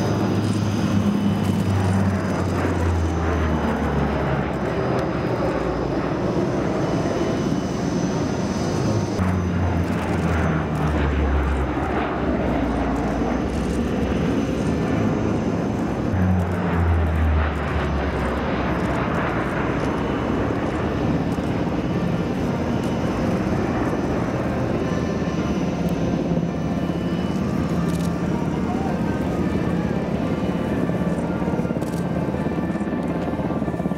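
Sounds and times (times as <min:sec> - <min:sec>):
turboprop aircraft engine drone: 0:00.0 - 0:33.9.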